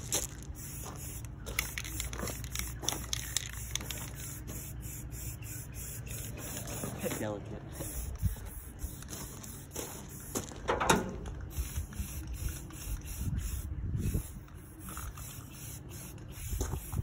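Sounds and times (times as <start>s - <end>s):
spray paint can hissing: 0.0s - 10.6s, 11.3s - 17.0s.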